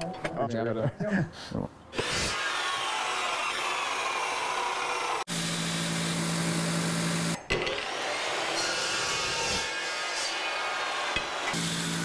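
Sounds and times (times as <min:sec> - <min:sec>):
chop saw cutting steel: 0:02.0 - 0:12.0.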